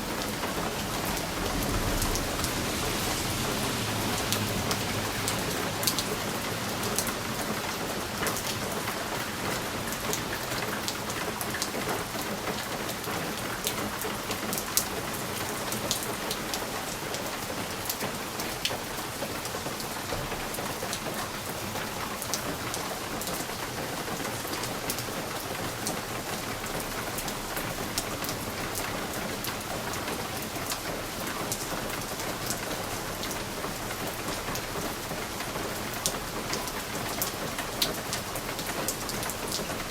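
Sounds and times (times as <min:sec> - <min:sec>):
rain drops ticking on window: 0:00.0 - 0:39.9
steady rain hiss: 0:00.0 - 0:39.9.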